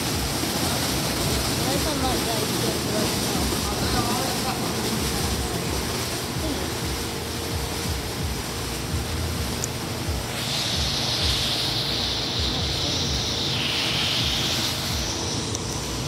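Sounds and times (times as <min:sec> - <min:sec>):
high-pitched hiss: 0:00.0 - 0:16.0
water spray and spinning brushes: 0:00.0 - 0:16.0.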